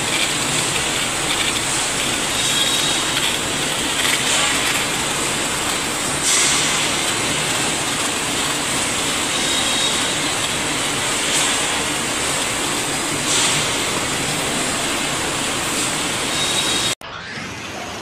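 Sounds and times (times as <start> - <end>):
steel tube mill clattering: 0.0 - 17.0.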